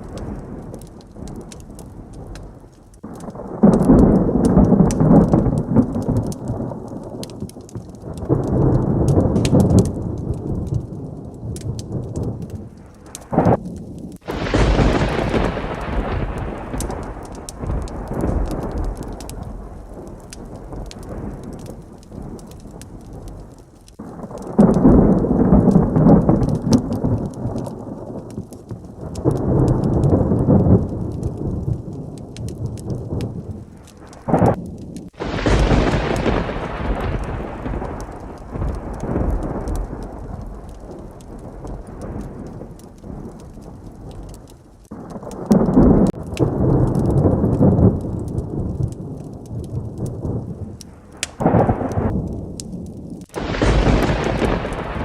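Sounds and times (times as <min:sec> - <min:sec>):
heavy rain: 0:00.0 - 0:55.0
log fire crackling: 0:00.0 - 0:55.0
loud thunderclap: 0:00.0 - 0:55.0
rolling thunder: 0:00.0 - 0:55.0.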